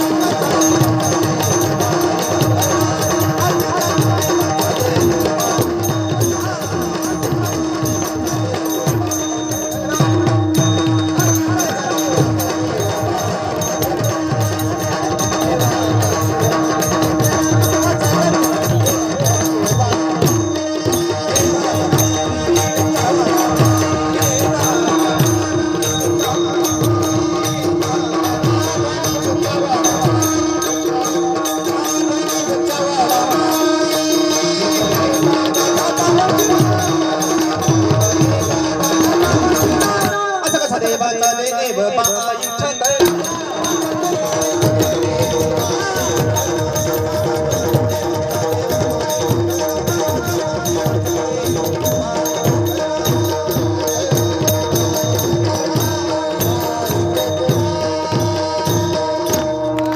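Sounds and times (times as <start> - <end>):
tabla playing: 0.0 - 59.9.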